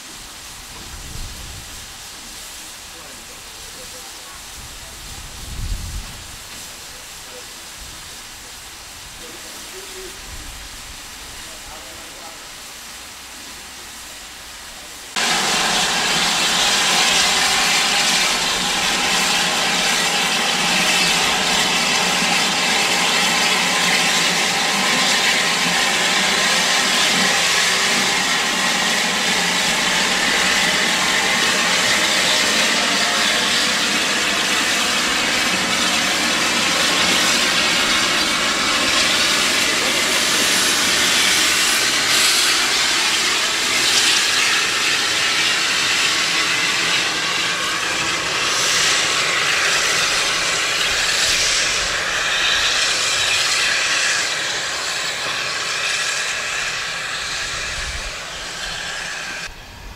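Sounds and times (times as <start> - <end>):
steam locomotive hissing: 0.0 - 59.9.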